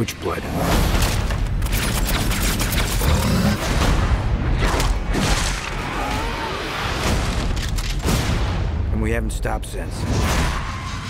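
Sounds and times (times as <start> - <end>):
trailer music: 0.0 - 11.0.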